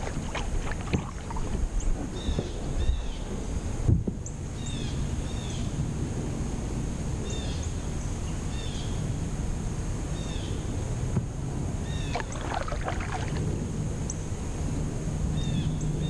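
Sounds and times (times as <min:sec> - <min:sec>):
low rumble of wind and water: 0:00.0 - 0:16.0.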